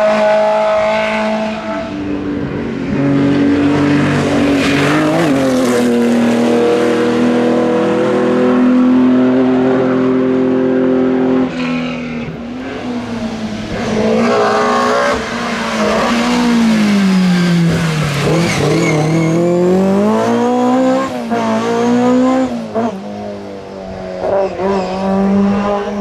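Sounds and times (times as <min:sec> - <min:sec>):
racing car engine at high revs: 0:00.0 - 0:26.0.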